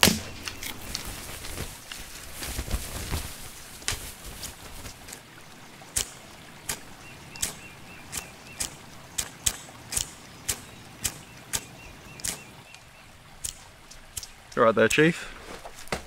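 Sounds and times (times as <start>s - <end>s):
dry twigs cracking: 0.0s - 16.0s.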